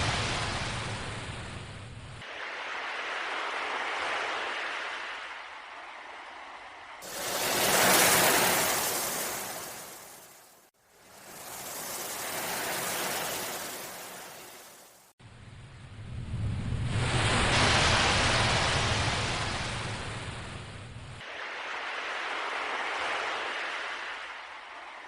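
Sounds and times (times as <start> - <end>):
ocean waves washing in: 0.0 - 25.0.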